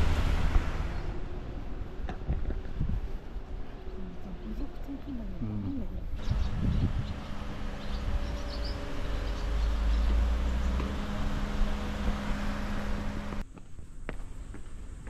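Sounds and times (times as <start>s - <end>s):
vehicle hum and low rumble: 0.0s - 15.0s.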